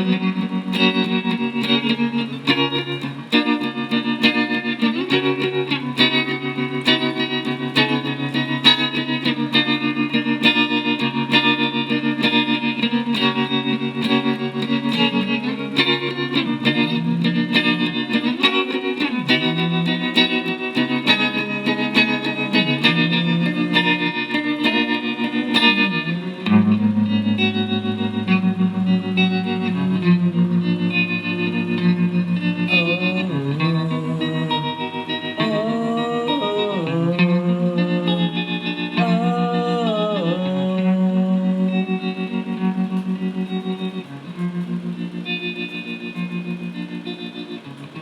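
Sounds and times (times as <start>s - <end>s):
distorted guitar: 0.0s - 48.0s.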